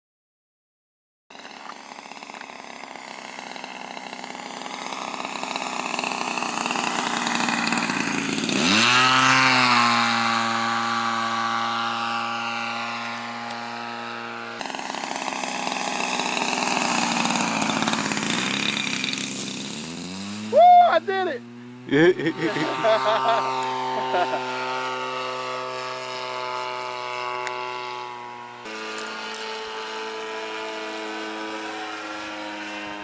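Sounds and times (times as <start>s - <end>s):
model airplane engine: 1.3s - 33.0s.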